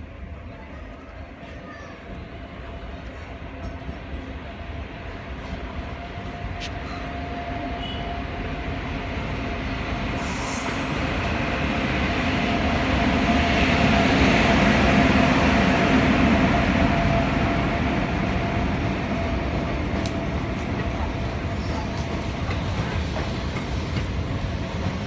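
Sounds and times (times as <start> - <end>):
electric locomotive hum and rumble: 0.0 - 25.0
train coaches rolling past: 0.0 - 25.0.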